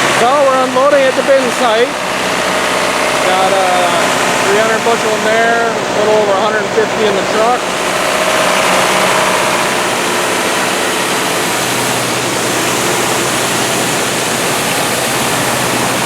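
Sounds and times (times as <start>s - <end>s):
grain rushing through auger: 0.0s - 16.0s
low engine hum: 0.0s - 16.0s.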